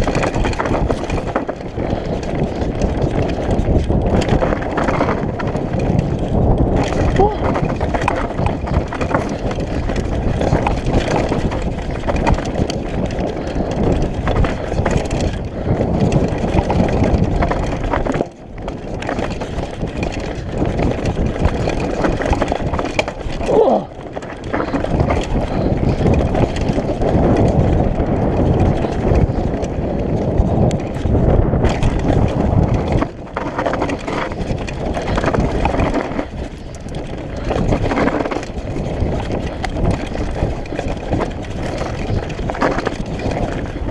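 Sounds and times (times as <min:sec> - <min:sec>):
tyres rumbling over dirt: 0:00.0 - 0:43.9
wind rushing over microphone: 0:00.0 - 0:43.9.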